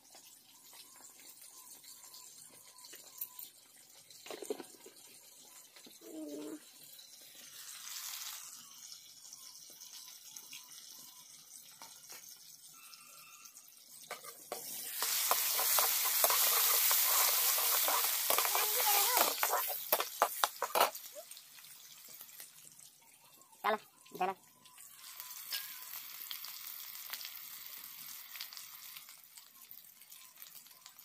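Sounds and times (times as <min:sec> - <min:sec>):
food sizzling and crackling in oil: 0:00.0 - 0:31.0.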